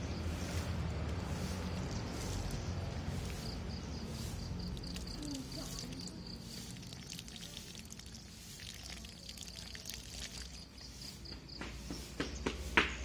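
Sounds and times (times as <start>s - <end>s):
water dripping onto leaves: 0.8s - 11.8s
water trickling off plastic: 1.0s - 11.6s.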